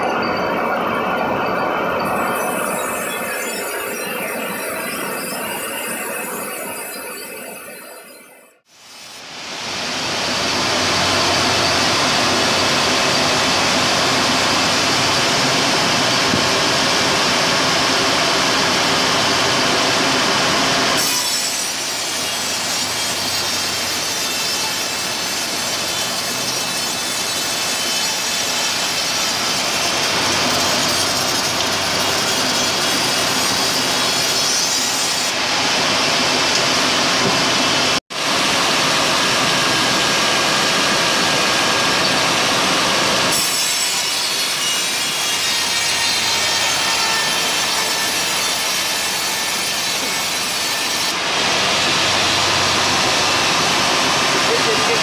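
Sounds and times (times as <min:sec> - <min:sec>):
band saw cutting through log: 0:08.8 - 0:55.0.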